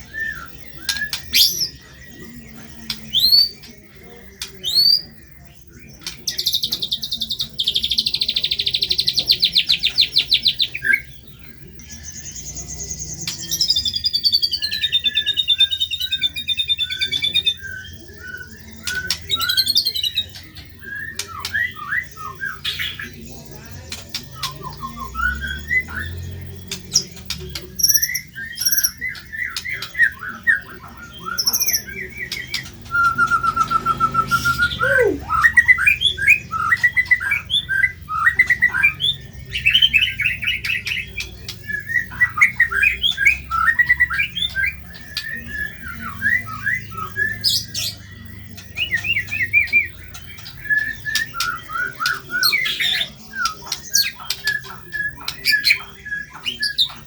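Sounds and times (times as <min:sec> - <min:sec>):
bird singing chattering notes: 0:00.0 - 0:57.0.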